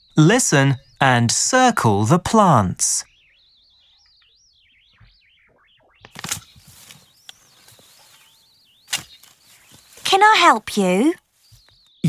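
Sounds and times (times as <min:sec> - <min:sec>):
birds twittering: 0:00.0 - 0:12.0
outdoor background: 0:00.0 - 0:12.0.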